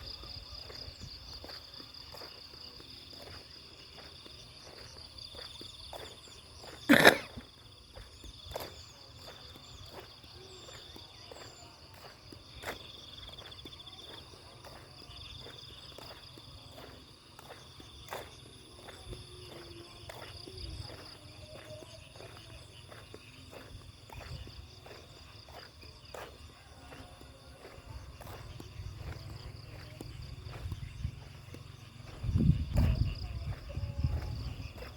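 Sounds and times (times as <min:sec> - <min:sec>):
footsteps walking: 0:00.0 - 0:34.9
insects trilling: 0:00.0 - 0:34.9.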